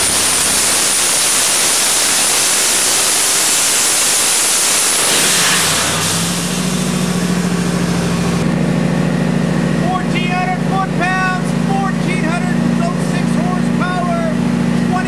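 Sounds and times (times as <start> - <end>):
engine revving at high rpm: 0.0 - 15.0
turbo whine: 0.0 - 15.0.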